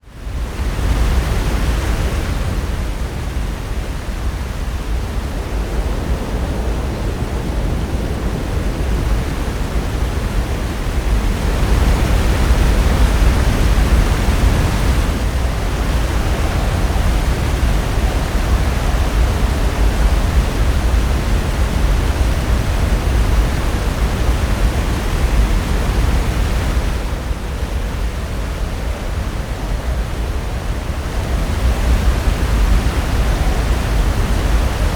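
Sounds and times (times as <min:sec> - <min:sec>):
ocean surf breaking on shore: 0:00.2 - 0:34.9.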